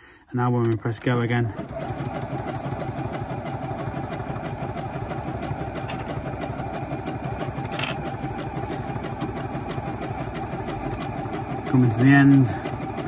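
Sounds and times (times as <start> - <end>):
sewing machine stitching: 0.7 - 13.0.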